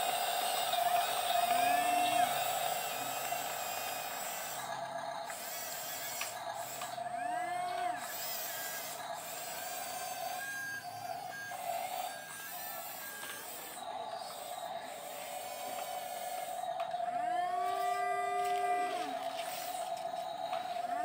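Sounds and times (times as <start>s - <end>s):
toy electric motors whining: 0.0s - 21.0s.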